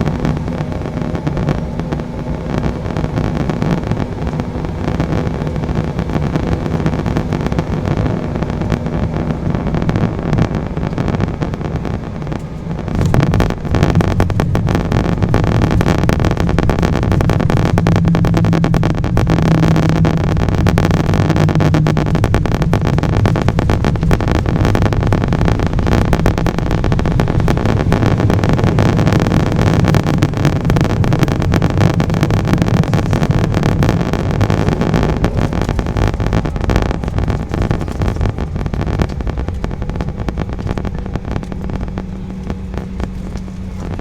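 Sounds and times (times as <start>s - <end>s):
jet engines and airflow rumble: 0.0s - 44.0s.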